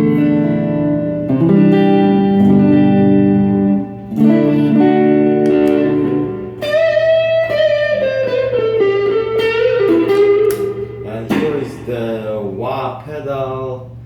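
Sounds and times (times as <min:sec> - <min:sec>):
clean electric guitar: 0:00.0 - 0:13.1.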